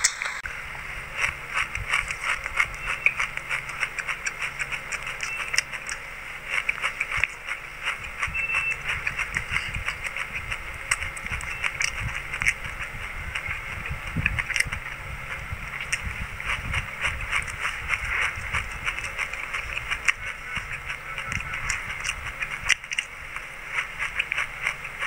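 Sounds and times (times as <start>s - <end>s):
chewing and crunching seeds: 1.0s - 25.0s.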